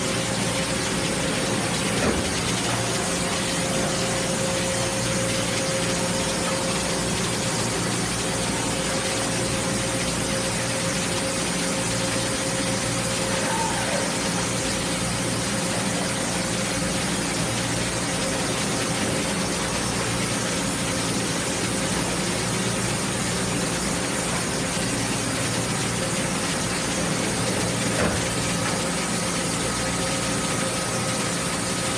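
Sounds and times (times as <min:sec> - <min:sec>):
mill machine hum: 0:00.0 - 0:31.9.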